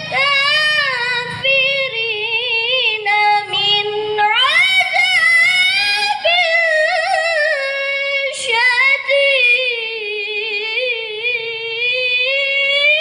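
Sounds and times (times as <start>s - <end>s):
woman reciting melodically: 0.0s - 13.0s.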